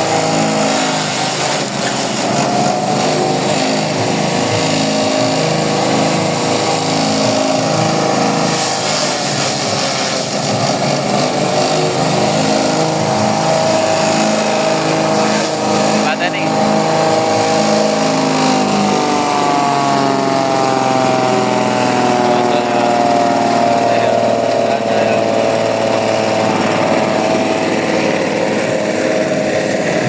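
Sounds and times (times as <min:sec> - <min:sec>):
small petrol engine running: 0:00.0 - 0:30.0.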